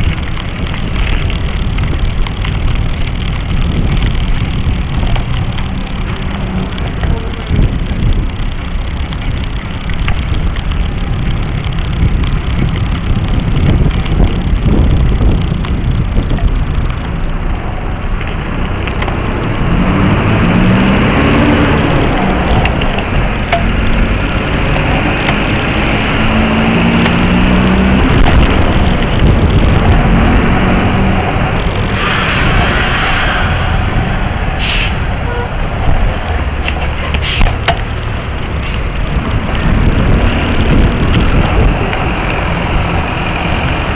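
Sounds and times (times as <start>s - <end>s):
motor traffic passing: 0.0s - 43.9s
road rumble: 0.0s - 43.9s
vehicle engines humming: 0.0s - 43.9s
wind buffeting: 0.0s - 43.9s.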